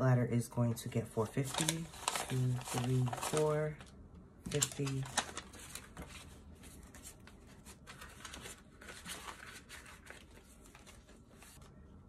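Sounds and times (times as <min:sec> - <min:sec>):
paper banknotes rustling: 0:01.2 - 0:03.9, 0:04.5 - 0:11.7.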